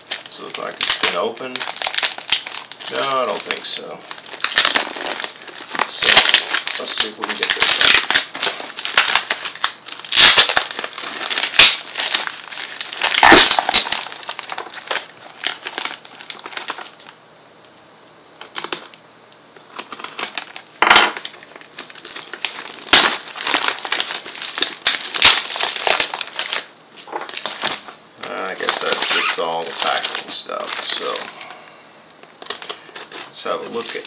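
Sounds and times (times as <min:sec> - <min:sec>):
cardboard packaging rustling: 0:00.0 - 0:17.2, 0:19.6 - 0:31.6, 0:32.2 - 0:34.0
plastic bag crinkling: 0:00.0 - 0:17.2, 0:19.6 - 0:31.6, 0:32.2 - 0:34.0.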